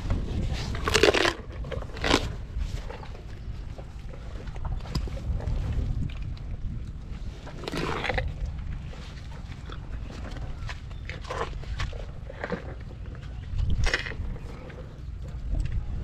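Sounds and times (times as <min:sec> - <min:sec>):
elephant crunching pumpkin: 0:00.0 - 0:16.0
steady low rumble: 0:00.0 - 0:16.0.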